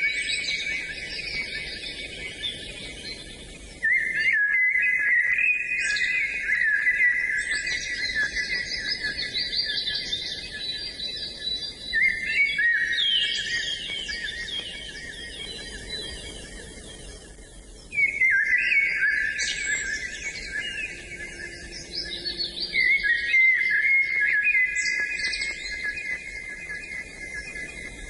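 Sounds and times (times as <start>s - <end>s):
songbirds singing: 0.0s - 28.0s.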